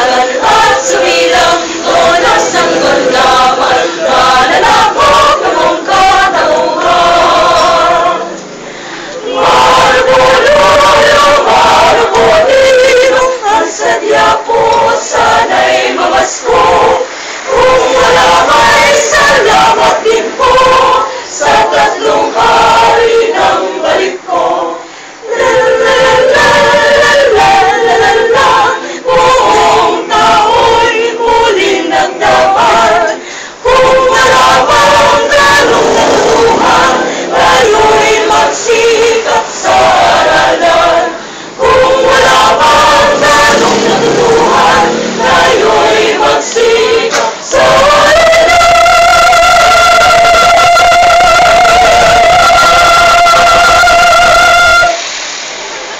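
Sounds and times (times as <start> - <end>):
group of people singing: 0.0 - 55.9.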